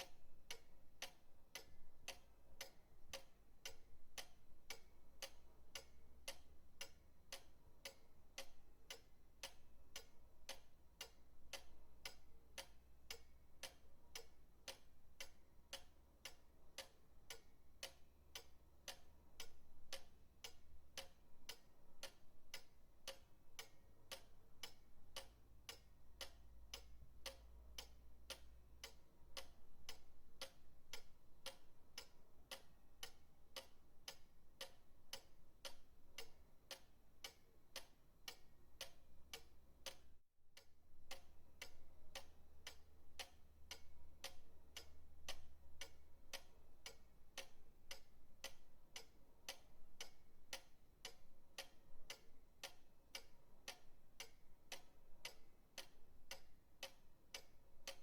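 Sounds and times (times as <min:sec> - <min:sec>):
pendulum clock ticking: 0:00.0 - 0:58.0.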